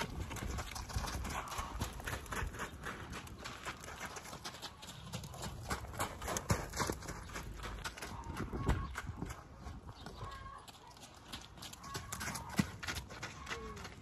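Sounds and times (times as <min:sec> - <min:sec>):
horse hoofbeats on dirt: 0:00.0 - 0:14.0.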